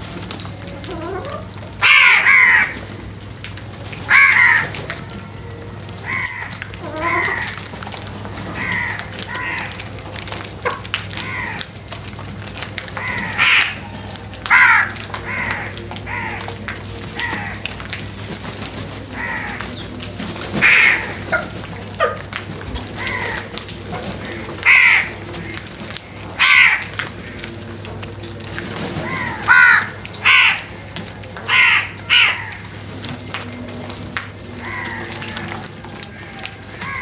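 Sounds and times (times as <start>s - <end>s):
crows cawing: 0.9s - 2.9s, 4.0s - 18.0s, 19.1s - 20.0s, 20.6s - 27.6s, 29.0s - 32.8s, 34.5s - 37.0s.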